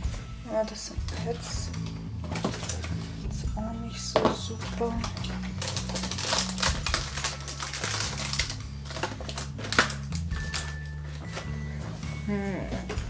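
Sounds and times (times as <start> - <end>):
hands rummaging through supplies: 0.0 - 13.0
paper and plastic rustling: 0.0 - 13.0.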